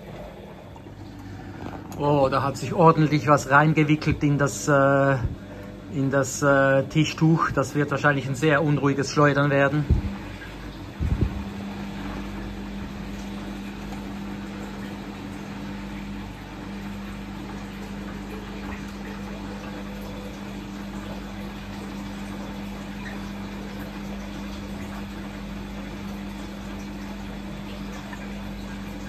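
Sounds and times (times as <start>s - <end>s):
washing machine pump hum: 0.0s - 29.0s.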